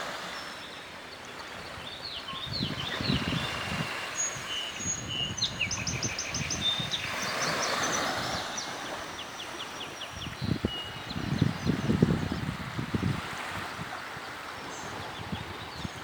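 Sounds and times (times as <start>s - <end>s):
birds chirping: 0.3s - 12.6s, 13.7s - 16.0s.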